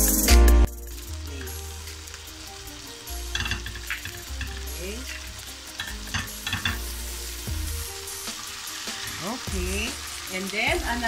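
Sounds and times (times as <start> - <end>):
steak sizzling on a griddle: 0.0 - 11.0.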